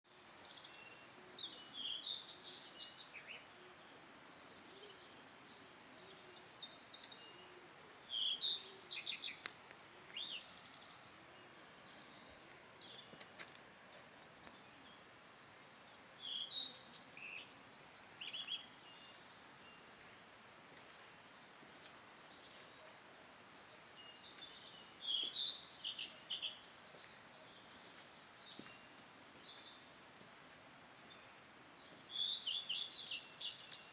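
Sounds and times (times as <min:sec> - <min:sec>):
songbirds chirping: 0:00.0 - 0:33.9
faint background hiss: 0:00.1 - 0:33.9.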